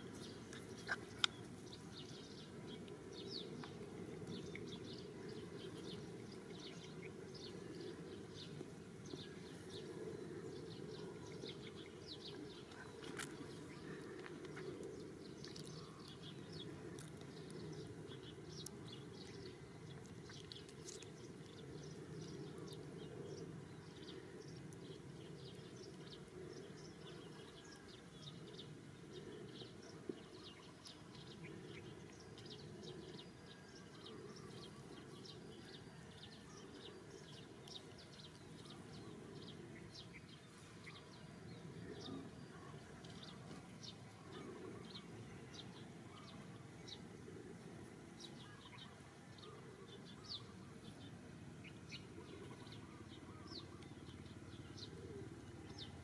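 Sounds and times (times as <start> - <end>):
low steady hiss: 0.0 - 56.0
small birds chirping: 0.0 - 56.0.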